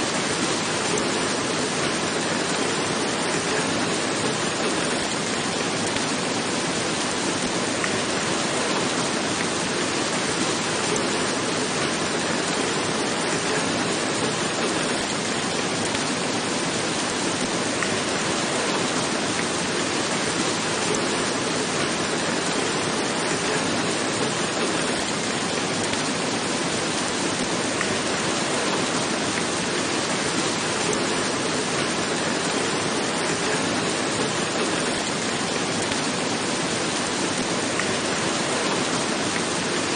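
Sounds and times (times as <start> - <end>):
steady rain on a roof: 0.0 - 39.9.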